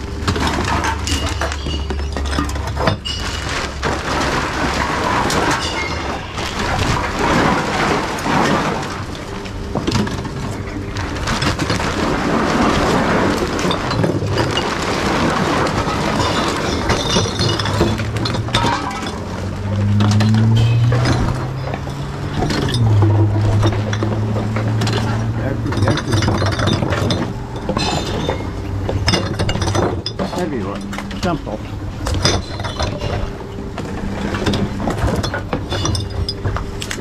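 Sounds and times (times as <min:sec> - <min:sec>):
glass bottles clattering and smashing: 0:00.0 - 0:37.0.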